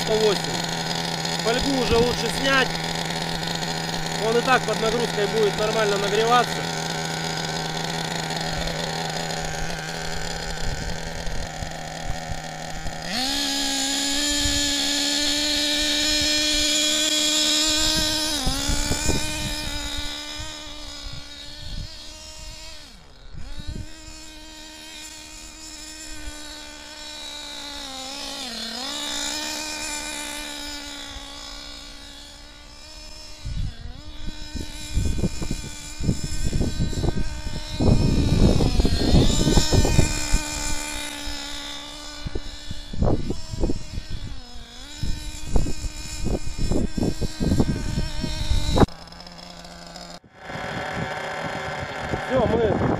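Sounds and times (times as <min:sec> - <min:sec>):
small nitro engine buzzing: 0:00.0 - 0:52.9.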